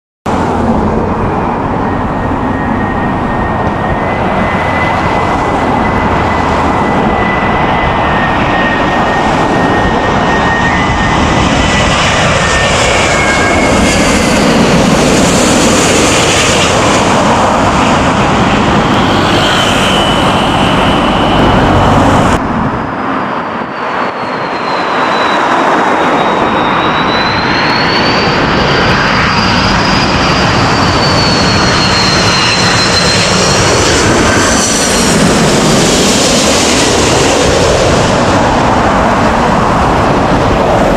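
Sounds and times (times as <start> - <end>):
high engine whine: 0.3 - 40.9
jet engines roaring: 0.3 - 40.9.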